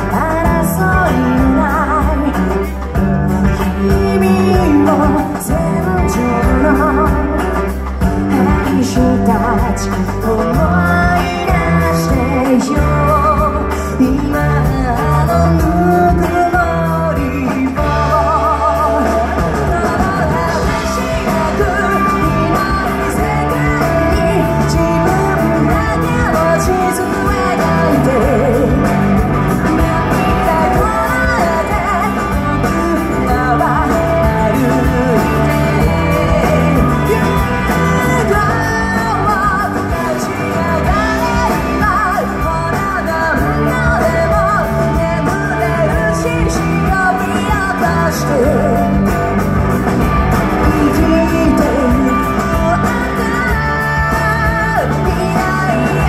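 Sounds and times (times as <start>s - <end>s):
live rock band: 0.0s - 56.0s
woman singing: 0.0s - 56.0s.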